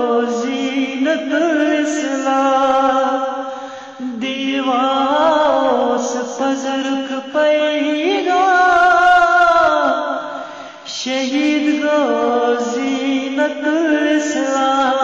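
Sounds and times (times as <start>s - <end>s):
man singing devotional chant: 0.0s - 15.0s.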